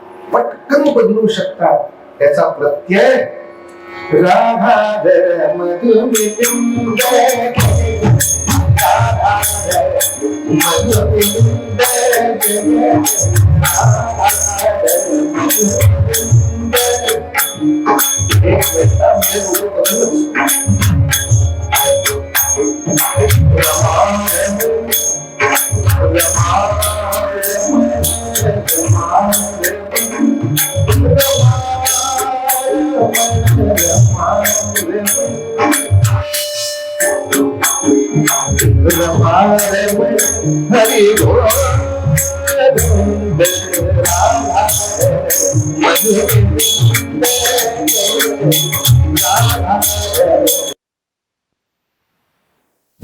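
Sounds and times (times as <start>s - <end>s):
held melody line: 3.9s - 50.8s
hand cymbals jingling: 6.2s - 50.8s.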